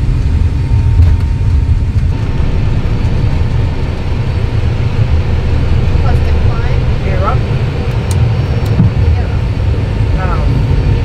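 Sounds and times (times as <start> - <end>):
jet engines rumbling on takeoff: 0.0 - 11.0.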